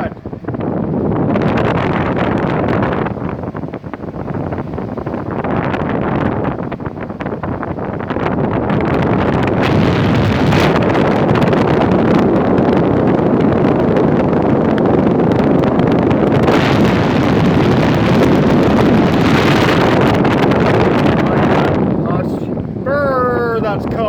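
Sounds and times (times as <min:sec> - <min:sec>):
air buffeting microphone: 0:00.0 - 0:24.0
air conditioner fan rushing: 0:00.0 - 0:24.0.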